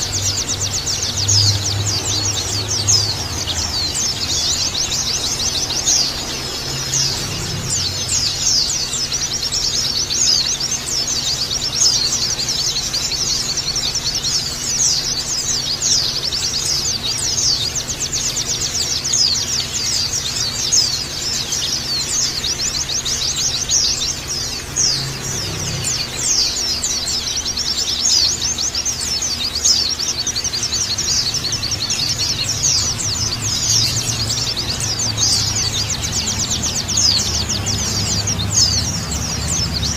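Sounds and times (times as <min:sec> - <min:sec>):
flock of birds twittering: 0:00.0 - 0:39.9.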